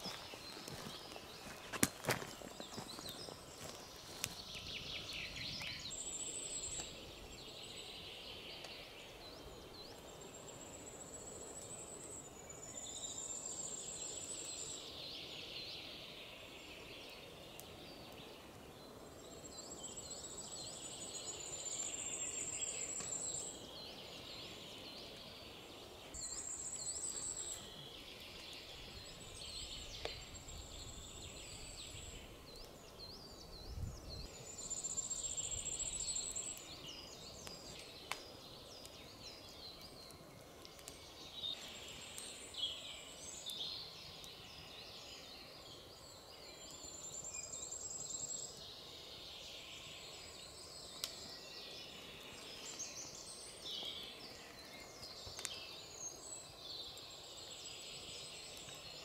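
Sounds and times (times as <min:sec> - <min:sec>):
campfire crackling: 0:00.0 - 0:59.0
songbirds chirping: 0:00.0 - 0:59.0.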